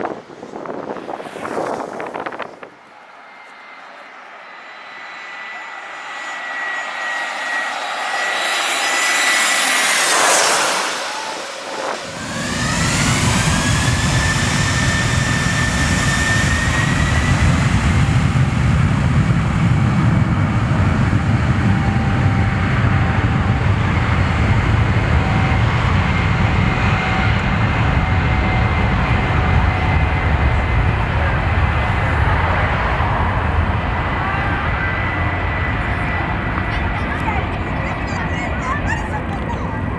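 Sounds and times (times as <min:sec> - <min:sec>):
jet engines rumbling with turbine whine: 0:00.0 - 0:39.9.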